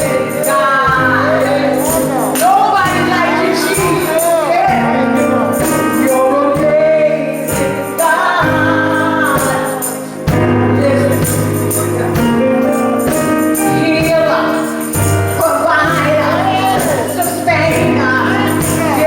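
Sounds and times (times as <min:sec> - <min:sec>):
band playing: 0:00.0 - 0:19.0
tambourine jingling: 0:00.0 - 0:19.0
voices singing gospel: 0:00.0 - 0:19.0.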